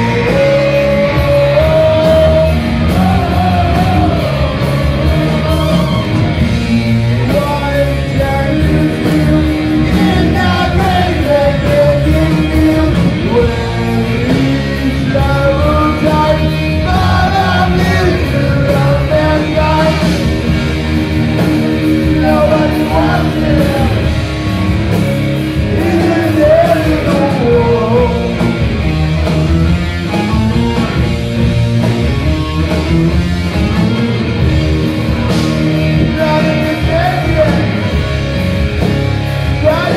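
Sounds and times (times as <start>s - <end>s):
rock song with lead vocal: 0.0s - 39.9s.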